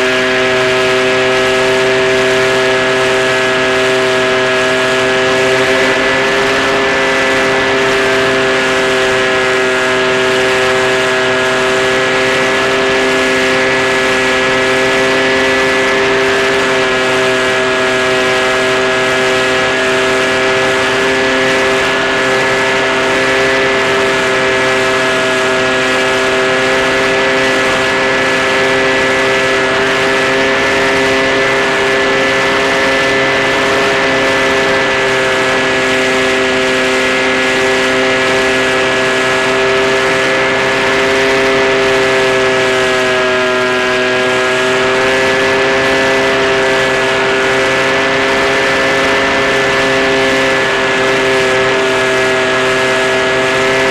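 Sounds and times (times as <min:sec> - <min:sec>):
electric motor and propeller hum: 0:00.0 - 0:53.9.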